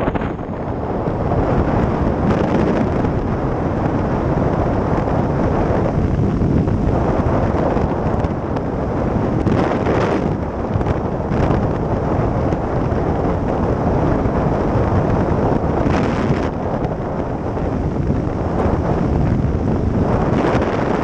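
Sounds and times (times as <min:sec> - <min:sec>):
motorcycle engine and tyre noise: 0:00.0 - 0:21.0
wind buffeting microphone: 0:00.0 - 0:21.0.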